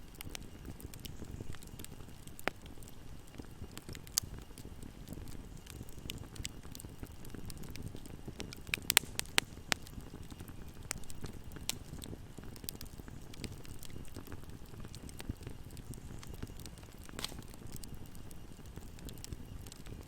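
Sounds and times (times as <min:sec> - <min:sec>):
fire crackling in a fireplace: 0:00.0 - 0:20.0.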